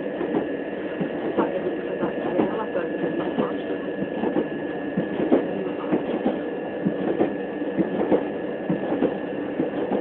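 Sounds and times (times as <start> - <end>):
train carriage rumble and rattle: 0.0 - 10.0.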